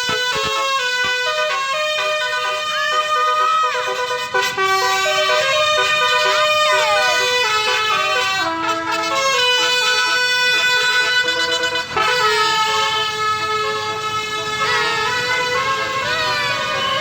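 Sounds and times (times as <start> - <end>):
musical bus horn playing a tune: 0.0 - 17.0.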